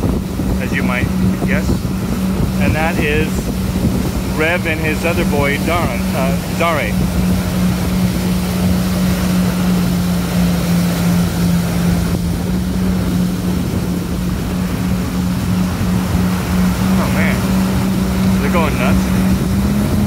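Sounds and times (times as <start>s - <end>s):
jet ski engine humming: 0.0s - 20.0s
wind and water rushing: 0.0s - 20.0s.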